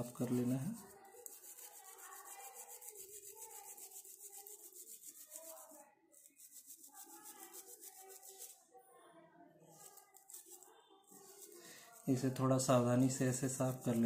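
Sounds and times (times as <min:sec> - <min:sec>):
small brush scrubbing circuit board: 0:00.0 - 0:08.6, 0:09.7 - 0:14.0.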